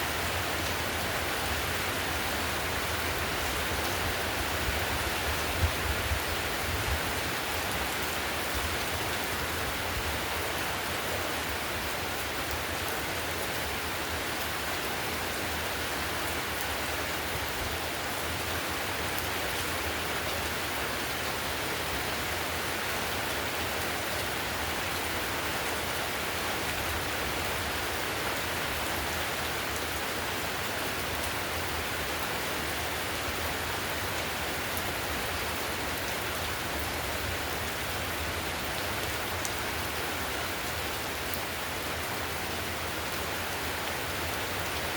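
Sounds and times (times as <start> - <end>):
heavy rain on a tiled roof: 0.0 - 44.9.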